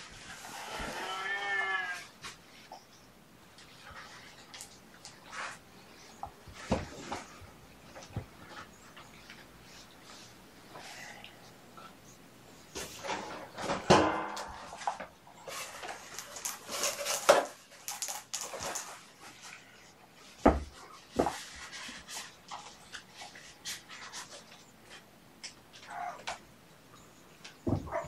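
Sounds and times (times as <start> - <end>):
kittens scuffling and rustling: 0.0 - 13.8, 14.5 - 26.5.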